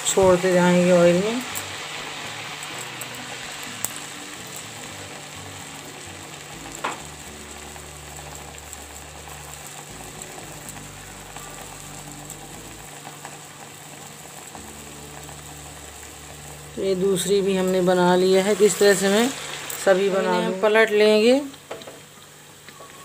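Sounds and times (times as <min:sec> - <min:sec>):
oil sizzling and bubbling: 0:00.0 - 0:23.0.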